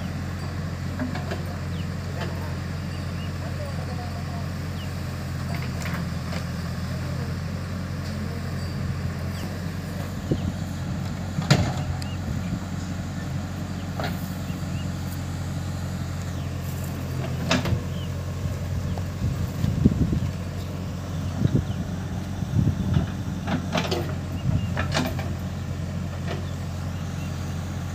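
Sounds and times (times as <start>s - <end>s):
backhoe loader working: 0.0s - 27.9s
tractor idling: 0.0s - 27.9s.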